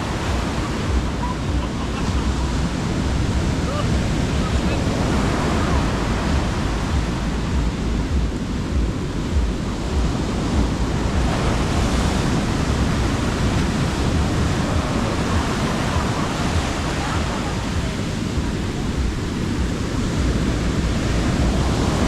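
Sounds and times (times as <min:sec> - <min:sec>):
surf washing onto beach: 0:00.0 - 0:22.0
wind rumble on microphone: 0:00.0 - 0:22.0.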